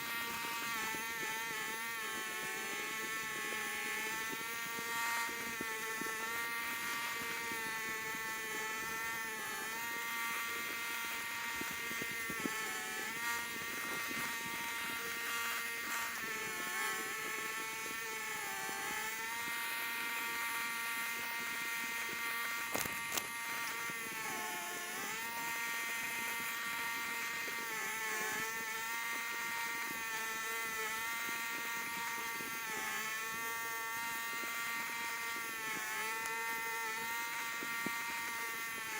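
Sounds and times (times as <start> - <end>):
small engine buzzing drone: 0.0 - 38.9.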